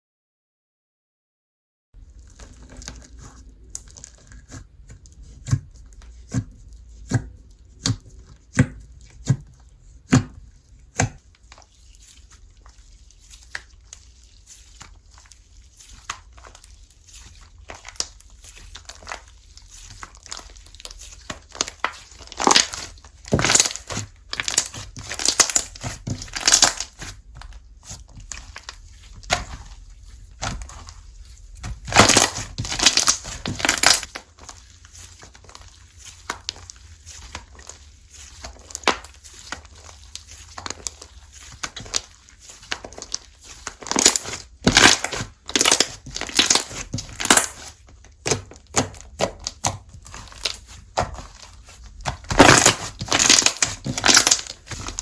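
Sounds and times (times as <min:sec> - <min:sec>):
slime crackling and crunching: 0:02.0 - 0:55.0
slime squishing with pops: 0:02.1 - 0:55.0.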